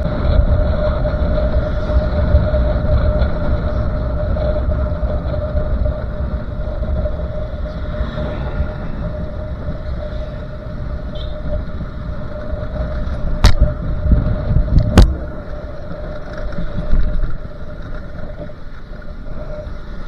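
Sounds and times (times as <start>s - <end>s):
wind on microphone: 0.0s - 18.5s
motorcycle engine hum: 0.0s - 20.0s
road rumble: 0.0s - 20.0s.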